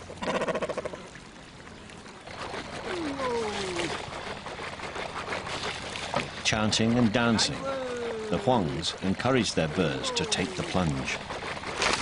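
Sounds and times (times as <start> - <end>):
water pouring and trickling: 0.0 - 12.0
rapidly pulsing call: 2.2 - 12.0.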